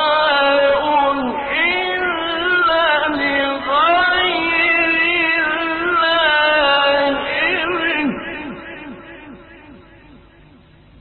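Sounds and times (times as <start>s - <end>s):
man chanting melodically: 0.0s - 10.5s.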